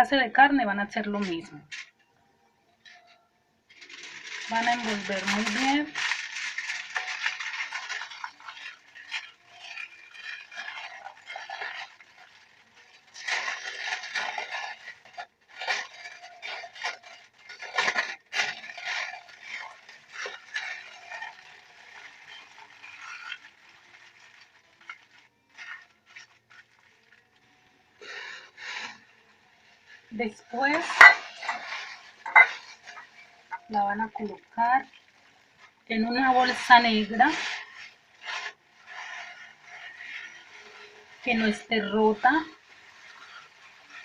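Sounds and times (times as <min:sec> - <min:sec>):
aluminium foil crinkling: 0:00.9 - 0:02.0, 0:02.8 - 0:44.0.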